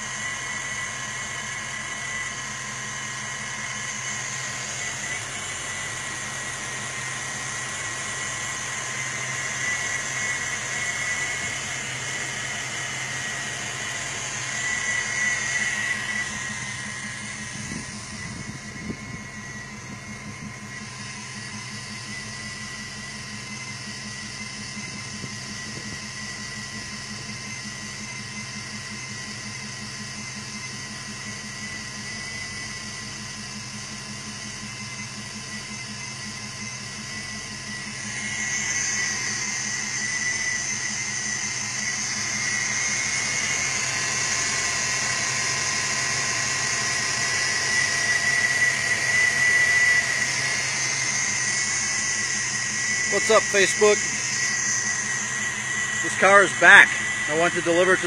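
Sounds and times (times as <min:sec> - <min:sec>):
car engine idling: 0:00.0 - 0:58.0
high-pitched whine: 0:00.0 - 0:58.0.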